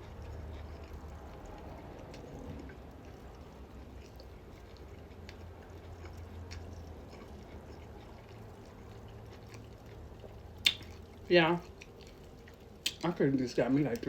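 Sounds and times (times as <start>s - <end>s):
open-mouth chewing: 0.0s - 13.1s.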